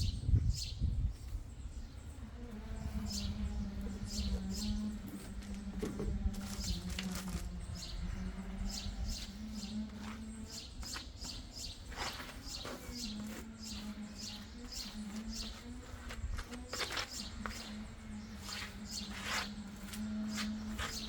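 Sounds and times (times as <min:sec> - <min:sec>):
bird chirping: 0:00.0 - 0:21.0
low machine hum: 0:00.0 - 0:21.0.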